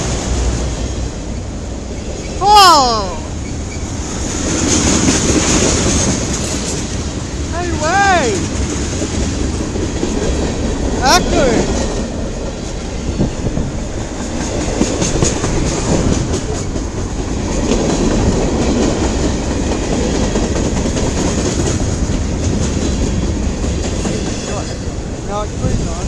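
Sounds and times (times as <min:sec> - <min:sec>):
train wheels rumbling on rail: 0:00.0 - 0:02.4, 0:03.3 - 0:26.0.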